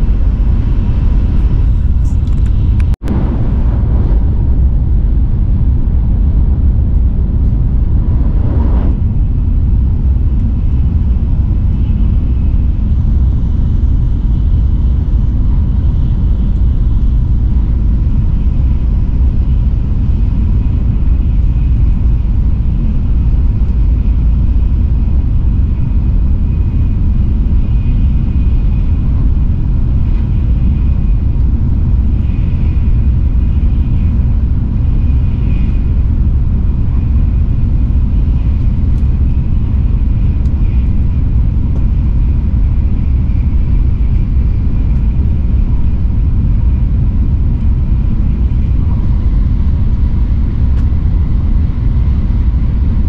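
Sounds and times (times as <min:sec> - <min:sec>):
faint steady whine: 0:00.0 - 0:53.0
train rumble inside cabin: 0:00.0 - 0:53.0.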